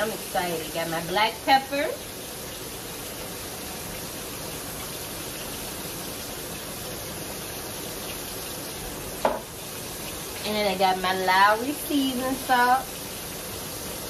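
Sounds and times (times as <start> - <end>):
meat sizzling in grease: 0.0 - 14.0.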